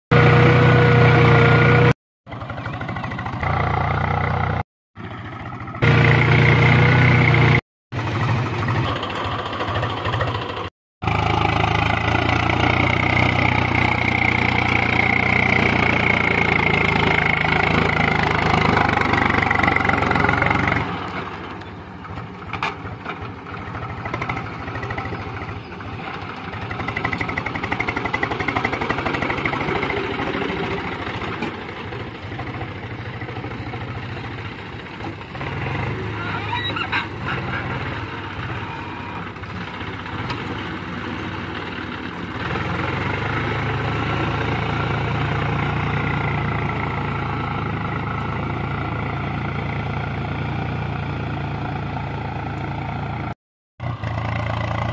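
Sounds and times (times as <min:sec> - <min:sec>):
tractor diesel engine under load: 0:00.1 - 0:54.9.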